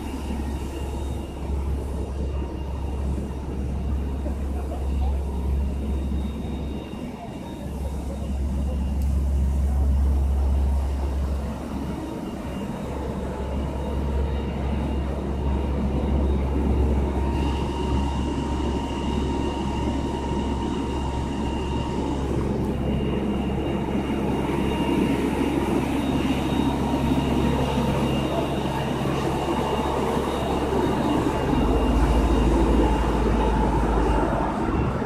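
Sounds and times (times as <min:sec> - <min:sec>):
truck engines idling: 0:00.0 - 0:35.0.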